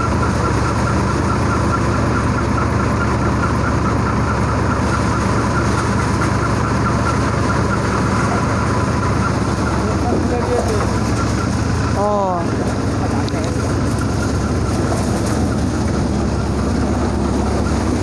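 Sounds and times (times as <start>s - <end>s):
threshing machine drone and ticking: 0.0s - 18.0s.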